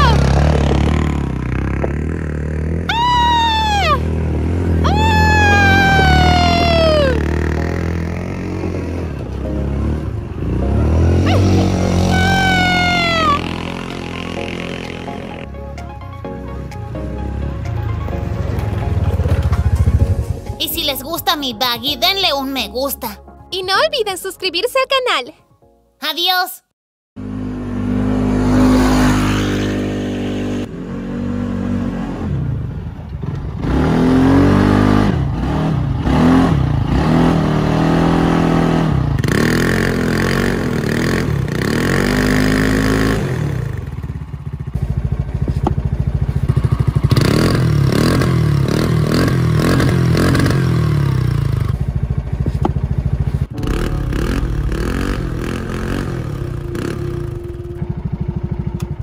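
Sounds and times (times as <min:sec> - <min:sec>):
buggy engine revving: 0:00.0 - 0:15.7, 0:27.2 - 0:59.0.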